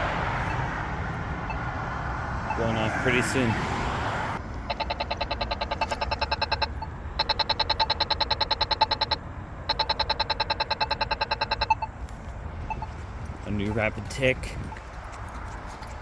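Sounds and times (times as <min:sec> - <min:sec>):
pedestrian signal rapid ticking: 0:00.0 - 0:01.8, 0:02.4 - 0:03.4, 0:04.4 - 0:15.1.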